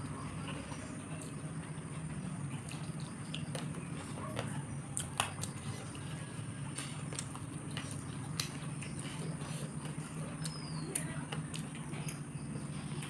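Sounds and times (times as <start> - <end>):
mouth-closed chewing: 0.0 - 13.0
steady low hum: 0.0 - 13.0.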